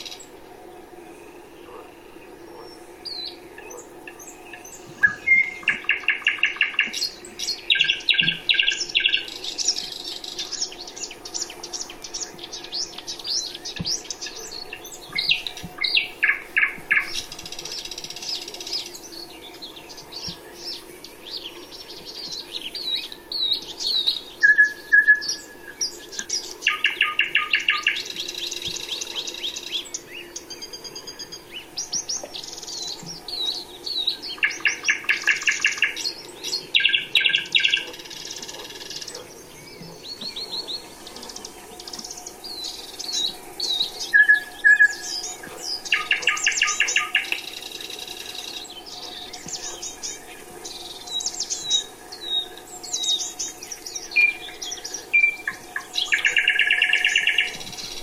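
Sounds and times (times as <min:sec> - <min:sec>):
faint steady hum: 0:00.0 - 0:58.0
songbirds trilling: 0:00.0 - 0:58.0.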